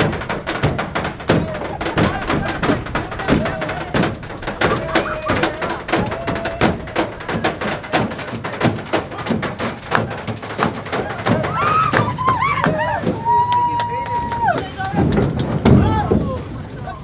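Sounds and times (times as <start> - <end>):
people calling out: 1.2 - 17.0.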